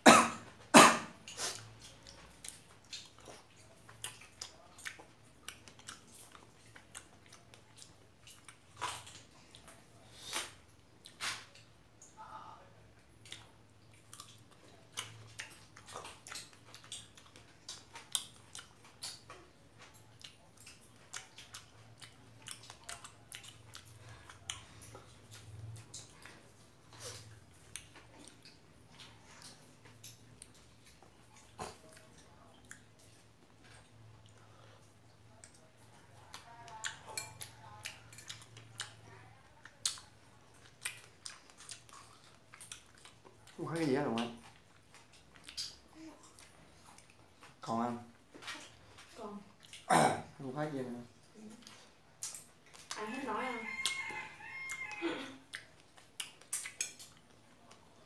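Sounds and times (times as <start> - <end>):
person chewing strawberries: 0.5 - 53.0, 53.6 - 58.0.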